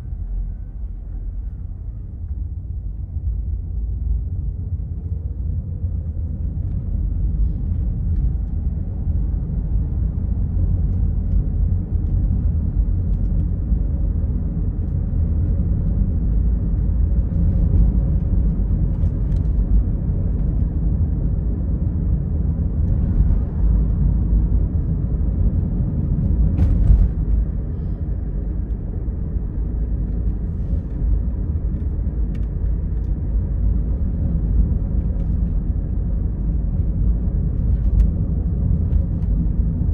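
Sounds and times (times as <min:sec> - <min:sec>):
car tyre rumble on road: 0:00.0 - 0:39.9.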